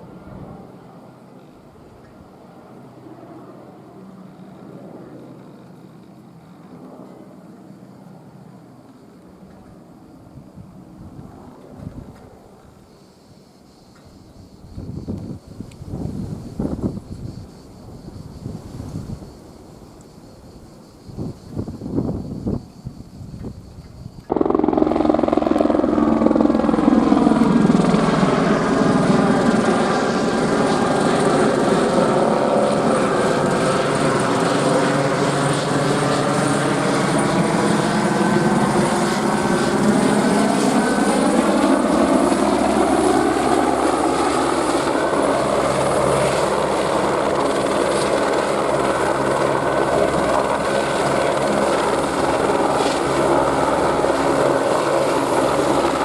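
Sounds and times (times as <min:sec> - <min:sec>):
helicopter rotor drone: 0:00.0 - 0:20.0, 0:21.0 - 0:56.0.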